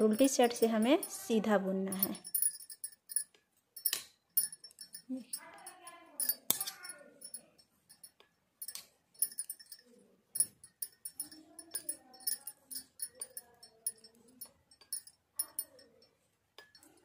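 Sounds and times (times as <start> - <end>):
knitting needles clicking: 0.0 - 17.0.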